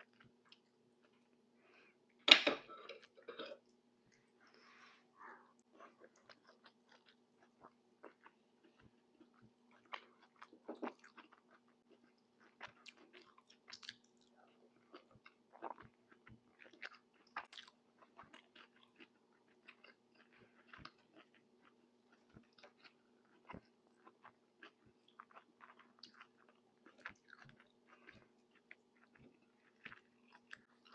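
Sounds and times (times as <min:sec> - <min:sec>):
close chewing and crunching: 0:00.0 - 0:01.4, 0:05.5 - 0:30.9
faint steady hum: 0:00.0 - 0:30.9.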